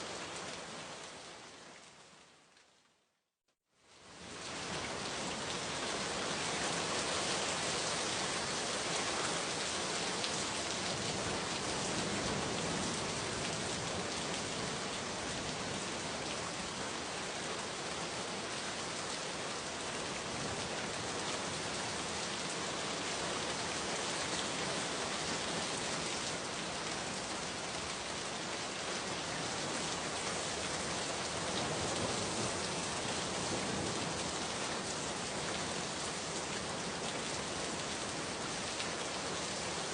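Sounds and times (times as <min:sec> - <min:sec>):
rain falling: 0:00.0 - 0:03.2, 0:03.8 - 0:39.9.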